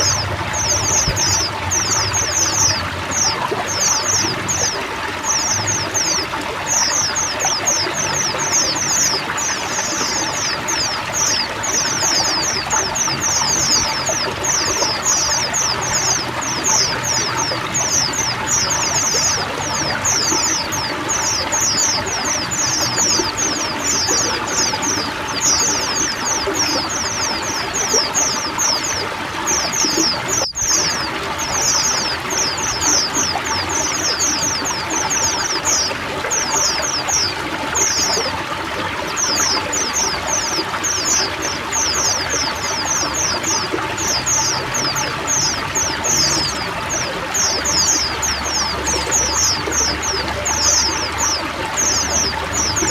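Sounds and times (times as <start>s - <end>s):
birds chirping high calls: 0.0s - 52.9s
running water pouring: 0.0s - 52.9s.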